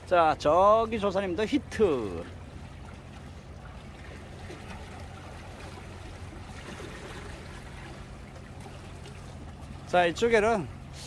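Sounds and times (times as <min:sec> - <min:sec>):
steady low hum: 0:00.0 - 0:11.0
small waves lapping on rocks: 0:01.4 - 0:11.0.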